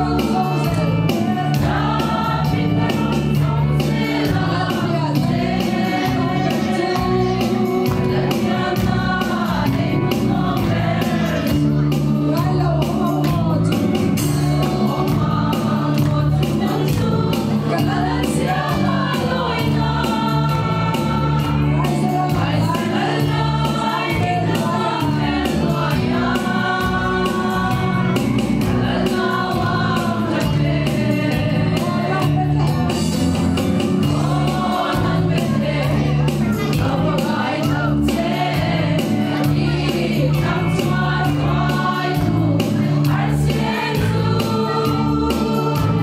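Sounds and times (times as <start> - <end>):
women's choir singing: 0.0 - 33.1, 33.8 - 46.0.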